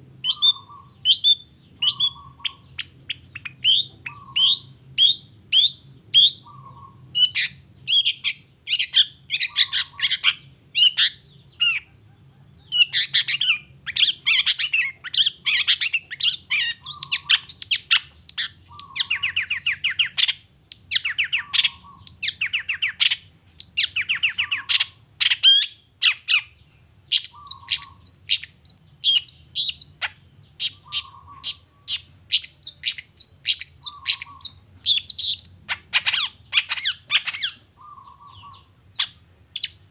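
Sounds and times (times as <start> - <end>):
bird singing chirps and trills: 0.0 - 39.9
faint low hum: 0.0 - 39.9.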